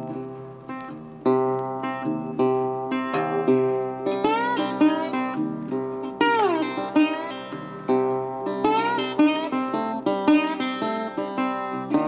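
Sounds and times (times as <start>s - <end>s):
plucked string instrument tune: 0.0s - 12.0s.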